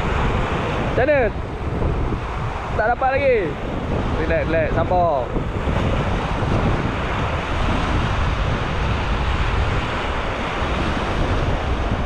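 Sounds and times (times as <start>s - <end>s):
waves washing up a beach: 0.0s - 12.0s
wind buffeting microphone: 0.0s - 12.0s.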